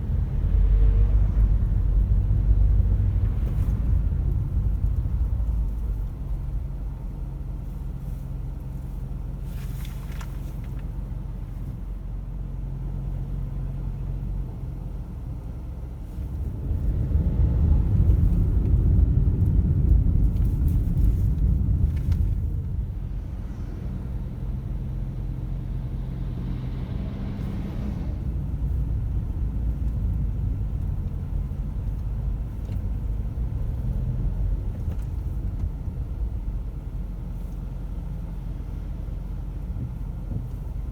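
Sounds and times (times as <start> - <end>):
car engine hum: 0.0 - 40.9
road noise: 0.0 - 40.9.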